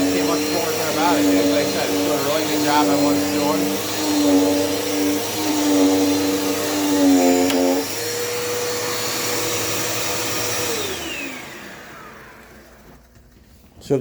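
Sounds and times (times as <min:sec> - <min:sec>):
vacuum cleaner winding down: 0:00.0 - 0:13.4
vacuum cleaner running: 0:00.0 - 0:14.0.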